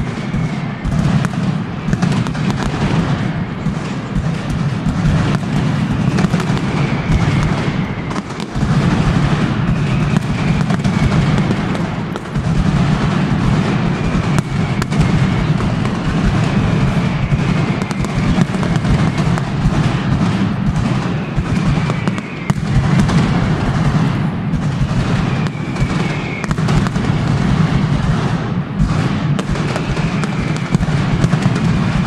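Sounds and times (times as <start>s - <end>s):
firecracker barrage: 0.0s - 32.0s.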